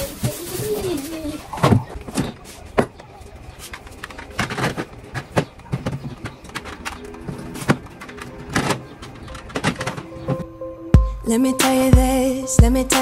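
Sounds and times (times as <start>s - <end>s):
plastic containers clattering: 0.0s - 10.4s.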